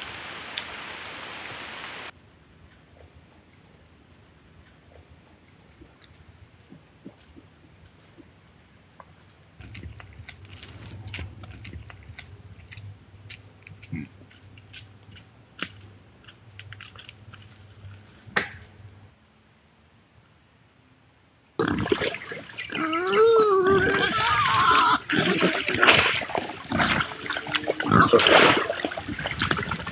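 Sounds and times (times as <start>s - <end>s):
steady low hum: 2.1s - 24.3s, 25.0s - 29.9s.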